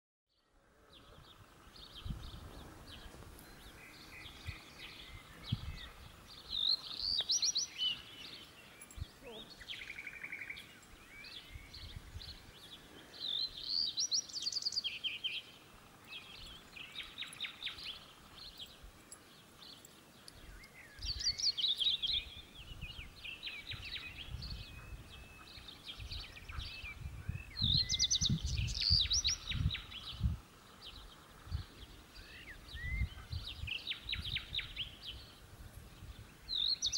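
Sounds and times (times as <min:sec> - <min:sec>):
songbirds chirping: 0:00.3 - 0:36.9.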